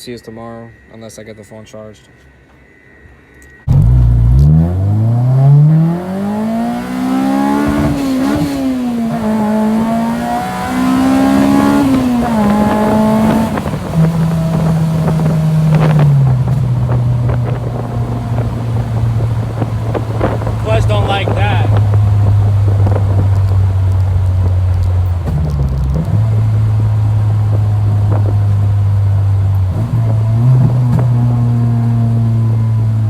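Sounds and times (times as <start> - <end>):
car engine accelerating hard: 3.7 - 33.0.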